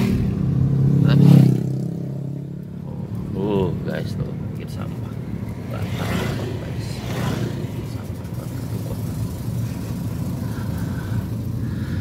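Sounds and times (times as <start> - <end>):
vehicle engine rumble: 0.0 - 12.0
road noise hiss: 2.0 - 12.0.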